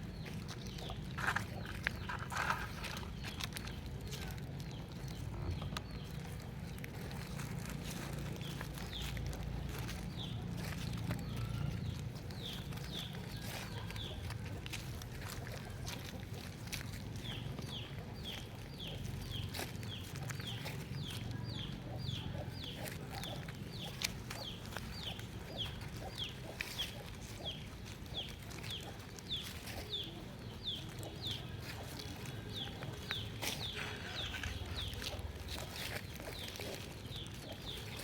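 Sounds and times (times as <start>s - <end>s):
bird peeping: 0.0s - 38.0s
low steady rumble: 0.0s - 38.0s.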